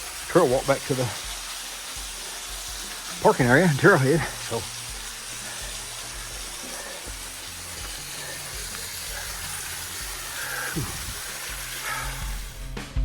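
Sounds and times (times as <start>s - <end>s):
small waterfall splashing: 0.0s - 12.6s.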